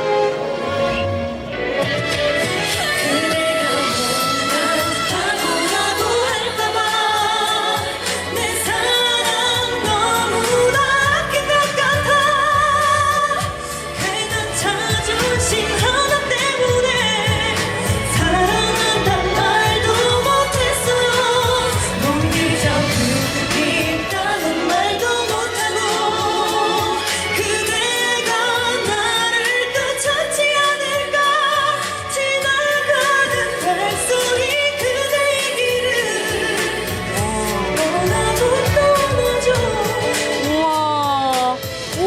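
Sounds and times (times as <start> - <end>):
instrumental backing track: 0.0 - 42.0
woman singing pop ballad: 2.1 - 42.0.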